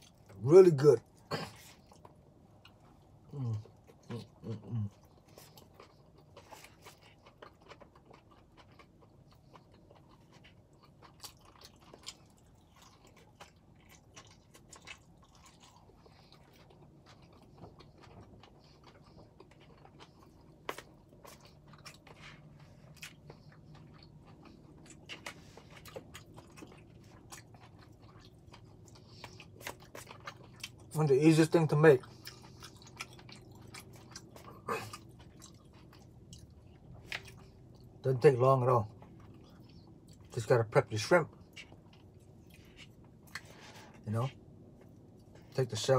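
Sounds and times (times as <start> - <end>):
person chewing noodles: 0.0 - 38.1, 38.8 - 40.4, 41.3 - 45.6.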